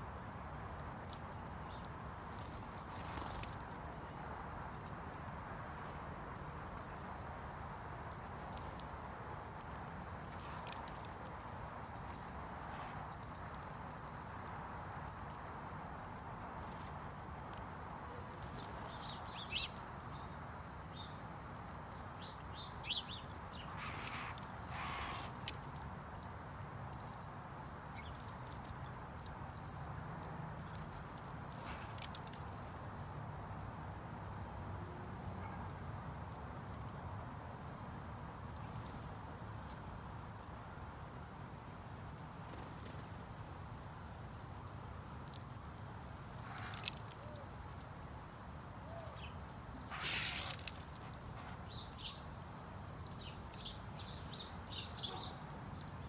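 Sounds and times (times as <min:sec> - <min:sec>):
insects trilling: 0:00.0 - 0:56.0
sharp ticking insect calls: 0:00.0 - 0:56.0.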